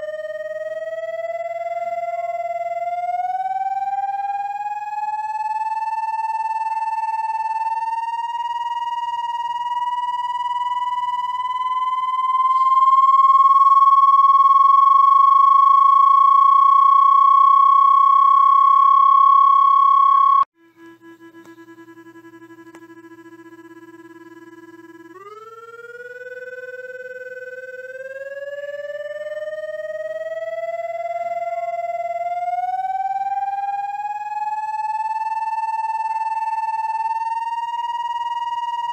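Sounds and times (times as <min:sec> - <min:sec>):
electronic whistle rising: 0:00.0 - 0:38.9
low pulsing electronic tone: 0:00.0 - 0:38.9.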